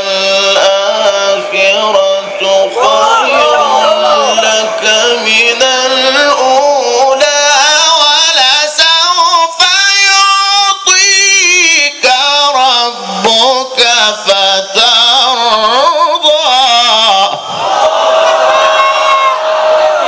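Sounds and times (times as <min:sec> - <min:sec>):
man chanting recitation: 0:00.0 - 0:17.4.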